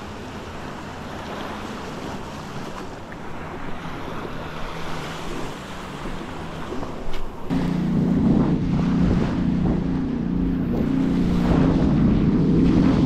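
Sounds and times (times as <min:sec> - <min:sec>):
waves breaking on beach: 0:00.0 - 0:13.0
wind buffeting microphone: 0:00.6 - 0:13.0.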